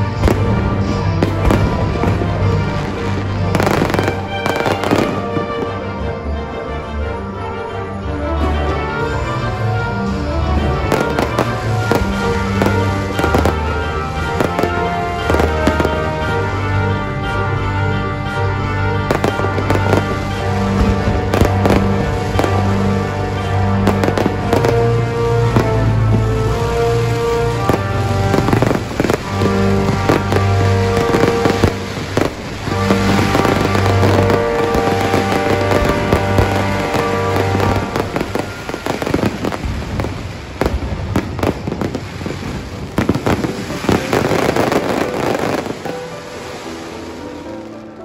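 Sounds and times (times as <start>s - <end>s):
fireworks bangs and crackles: 0.0s - 6.3s, 8.4s - 47.8s
music with long held notes: 0.0s - 48.0s.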